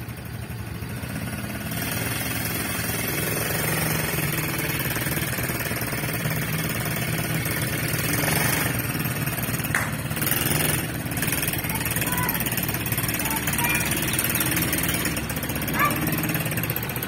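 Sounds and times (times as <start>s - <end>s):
quad engine puttering: 0.0s - 17.0s.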